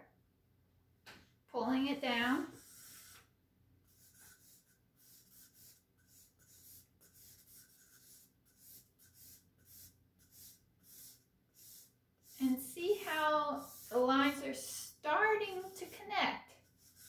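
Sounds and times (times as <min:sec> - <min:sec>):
charcoal scratching on paper: 0:02.0 - 0:17.0.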